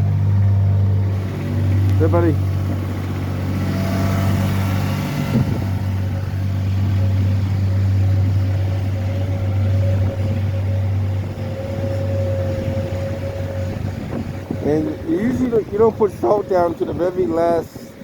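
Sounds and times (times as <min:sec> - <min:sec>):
snow-clearing machine engine drone: 0:00.0 - 0:17.8.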